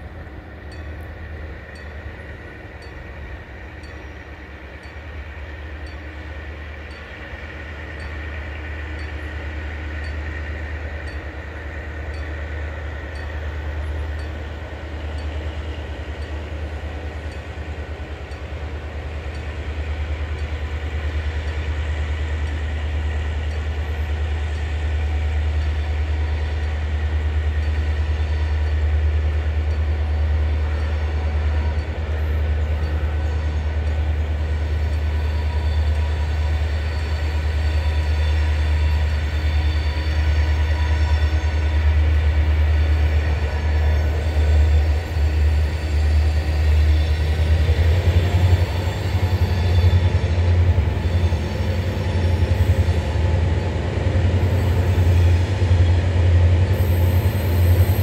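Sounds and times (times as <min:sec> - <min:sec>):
diesel locomotive drone: 0:00.0 - 0:58.0.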